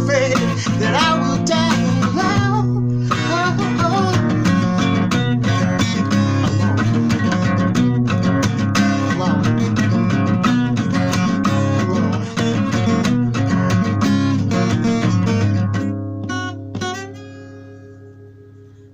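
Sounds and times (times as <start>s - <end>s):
acoustic guitar strumming: 0.0s - 18.9s.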